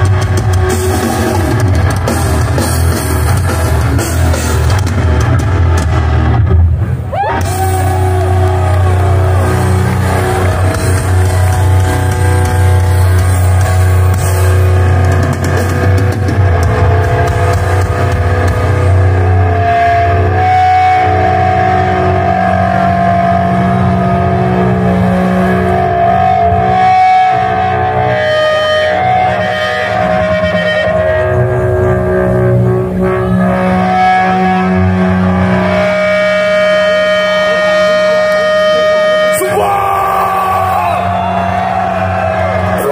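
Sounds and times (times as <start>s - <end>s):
guitar slide: 0.0s - 42.9s
heavy metal band droning chord: 0.0s - 42.9s.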